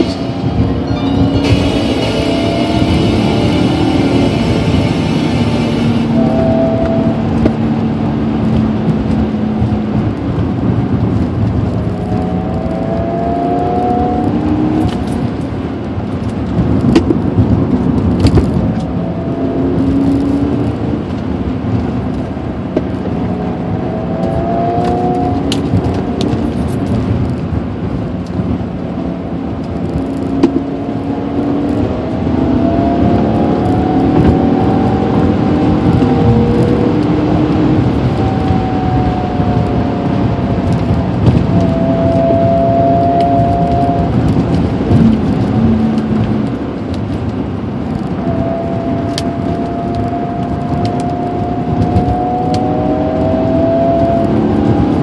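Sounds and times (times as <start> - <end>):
car engine accelerating: 0.0 - 55.0
road noise: 0.0 - 55.0.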